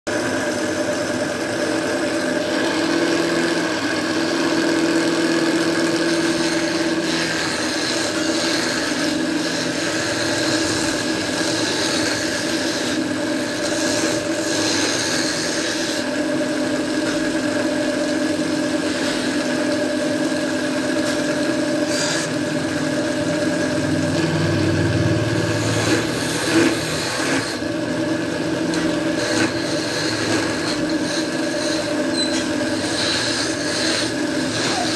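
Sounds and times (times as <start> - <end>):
wood lathe humming: 0.1 - 34.9
chisel scraping spinning wood: 0.2 - 24.5, 25.1 - 34.9.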